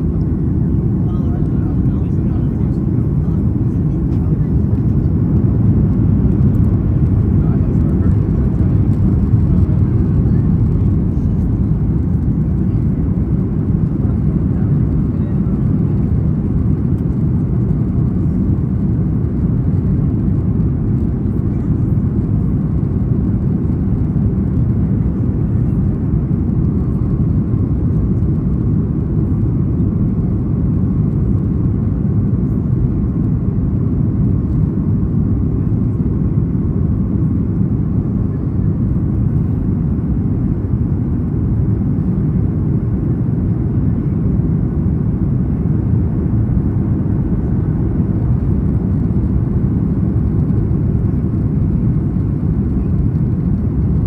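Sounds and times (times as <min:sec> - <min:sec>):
airplane cabin low rumble: 0:00.0 - 0:54.0.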